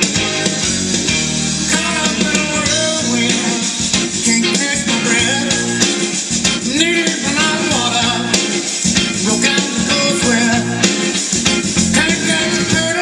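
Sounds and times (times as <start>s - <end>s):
song with singing over a beat: 0.0s - 13.0s.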